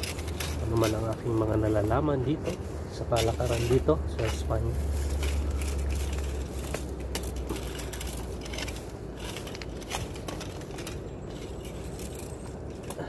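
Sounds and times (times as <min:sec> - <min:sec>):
dry bamboo crackling and snapping: 0:00.0 - 0:13.0.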